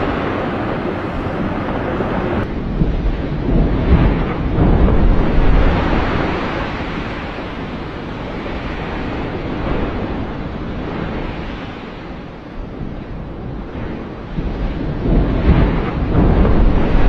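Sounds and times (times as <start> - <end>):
rushing falling ice and water: 0.0 - 17.0.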